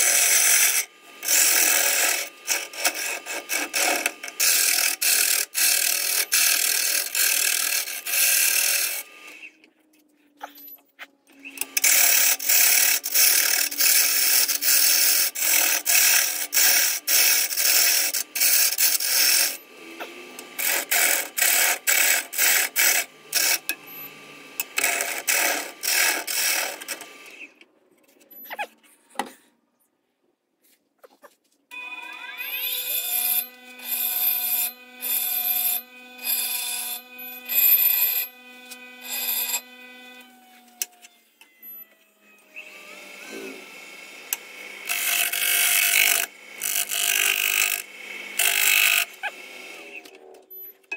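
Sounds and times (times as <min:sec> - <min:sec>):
gouge cutting wood on lathe: 0:00.0 - 0:09.5, 0:11.6 - 0:27.5, 0:32.2 - 0:40.3, 0:42.6 - 0:50.1.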